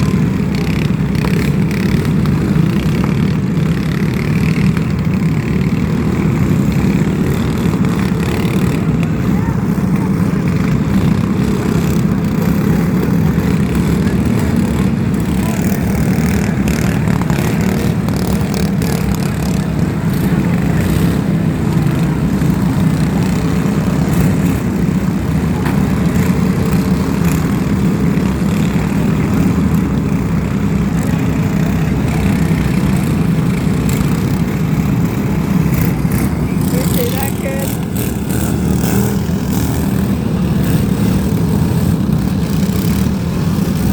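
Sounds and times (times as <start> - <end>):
riding lawn mower engines running: 0.0 - 43.9.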